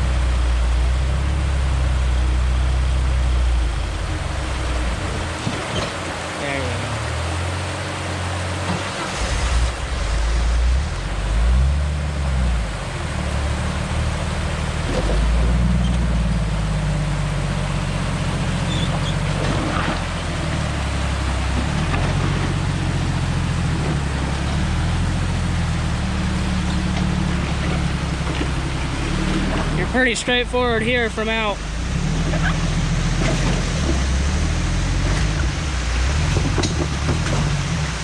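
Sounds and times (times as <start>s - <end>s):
road and cabin noise: 0.0s - 38.0s
truck engine revving: 0.0s - 38.0s.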